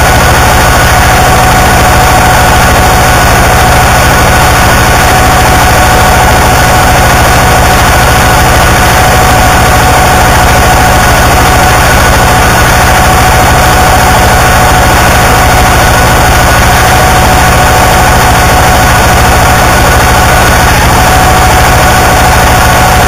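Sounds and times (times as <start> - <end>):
harsh distorted noise music: 0.0 - 23.0
rapid low pulsing: 0.0 - 23.0.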